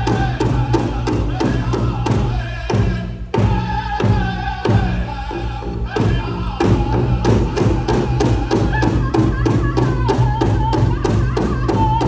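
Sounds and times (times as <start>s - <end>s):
drum beating steadily: 0.0s - 12.0s
group singing: 0.0s - 12.0s.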